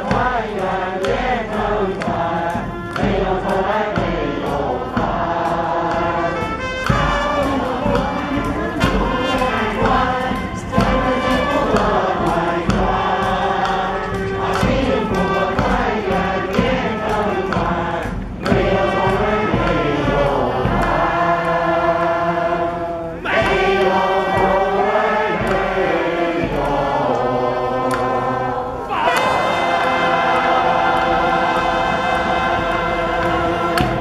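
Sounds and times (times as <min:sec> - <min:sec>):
group of voices singing: 0:00.0 - 0:34.0.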